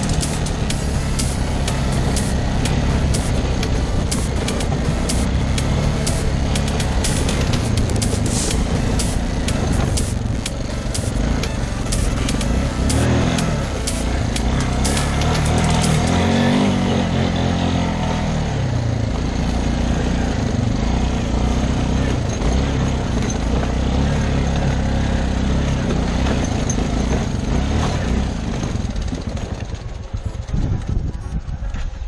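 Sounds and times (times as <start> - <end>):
quad bike engine running: 0.0 - 32.0.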